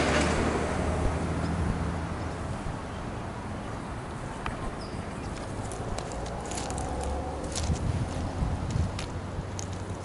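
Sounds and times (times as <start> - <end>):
outdoor background noise: 0.0 - 10.0
passing vehicle low hum: 0.0 - 10.0.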